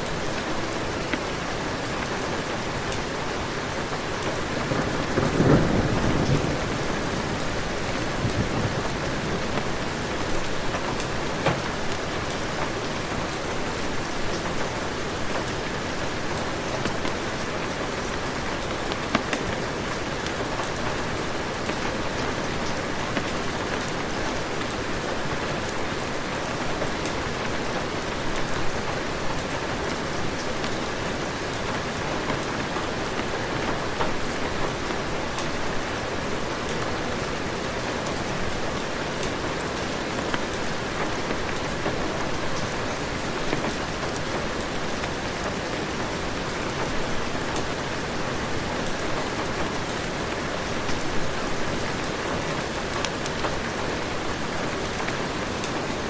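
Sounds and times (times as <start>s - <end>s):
heavy rain falling: 0.0s - 56.0s
rain drops ticking: 0.0s - 56.0s.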